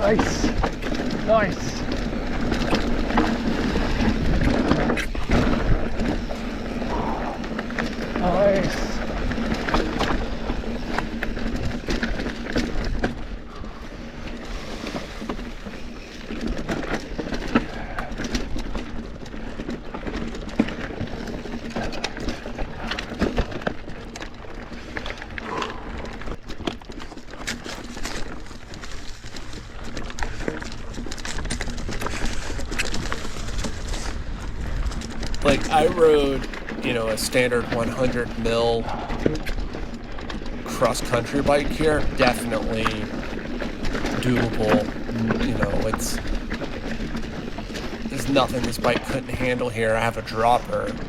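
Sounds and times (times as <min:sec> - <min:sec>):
wind rumble on microphone: 0:00.0 - 0:49.5
bike clattering over rocks: 0:00.0 - 0:51.0.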